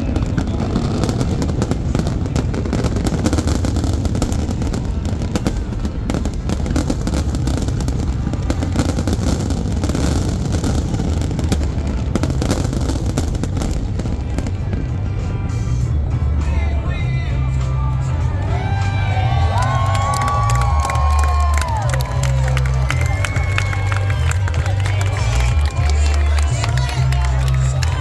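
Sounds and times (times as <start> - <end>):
fireworks cracking and banging: 0.0 - 28.0.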